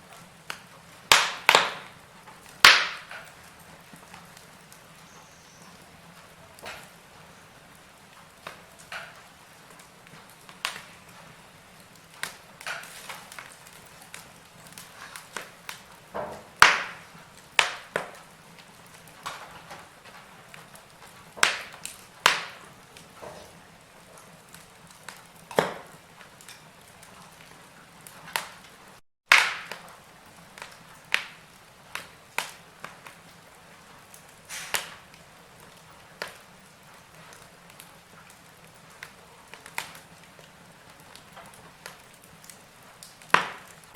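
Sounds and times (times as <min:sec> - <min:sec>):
faint steady hiss: 0:00.0 - 0:43.9
wood fire crackling and popping: 0:00.0 - 0:43.9.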